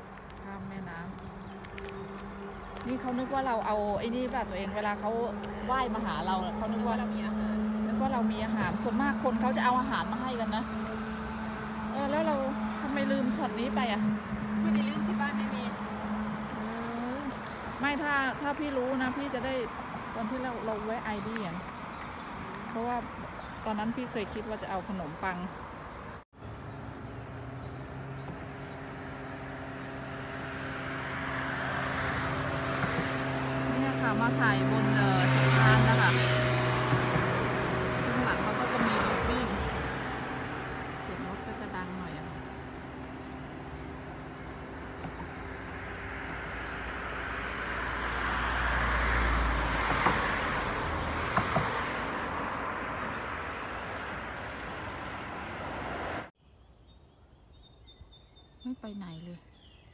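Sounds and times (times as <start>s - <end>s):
vehicle approaching: 0.0s - 56.3s
traffic engine hum: 0.0s - 56.4s.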